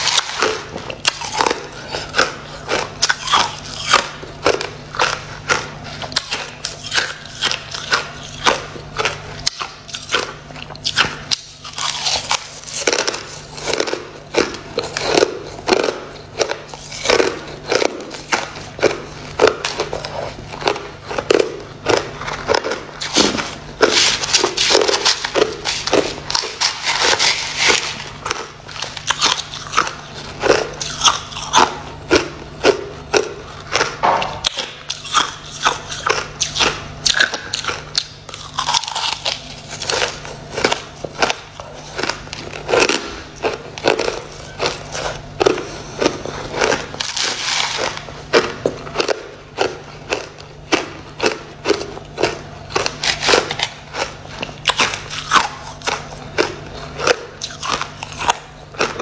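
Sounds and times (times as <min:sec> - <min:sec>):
ice crunched between teeth: 0:00.0 - 0:59.0.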